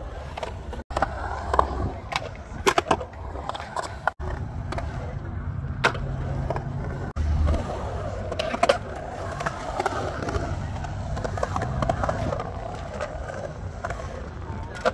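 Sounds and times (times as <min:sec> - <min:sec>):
skateboard wheels rolling on concrete: 0:00.0 - 0:14.9
skateboard clicks: 0:00.1 - 0:14.9.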